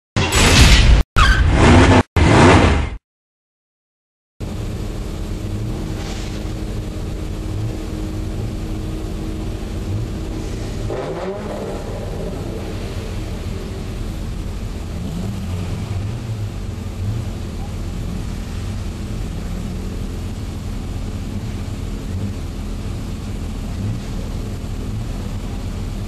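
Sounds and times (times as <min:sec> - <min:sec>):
engine revving: 0:01.5 - 0:03.0, 0:04.4 - 0:26.0
car engine idling: 0:04.4 - 0:26.0.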